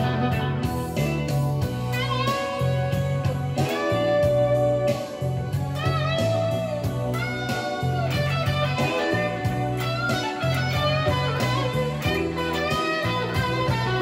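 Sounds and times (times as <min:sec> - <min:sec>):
electric guitar blues lead: 0:00.0 - 0:14.0
low bass figure: 0:00.0 - 0:14.0
steady drum beat: 0:00.0 - 0:14.0.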